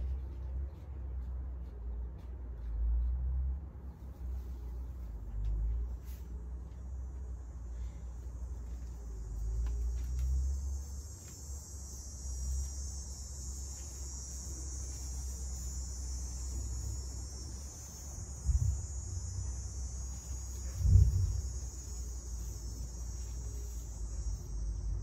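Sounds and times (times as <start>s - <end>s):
crickets chirping: 3.8s - 25.0s.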